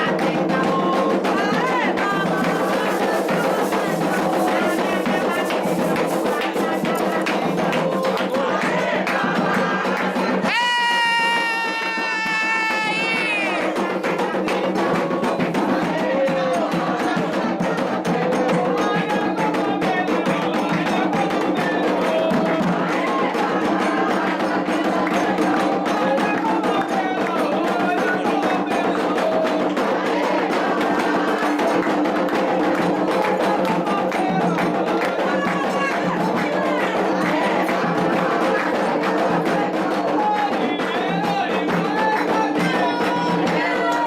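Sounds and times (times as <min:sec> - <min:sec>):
fast percussion: 0:00.0 - 0:44.0
group of voices singing: 0:00.0 - 0:44.0.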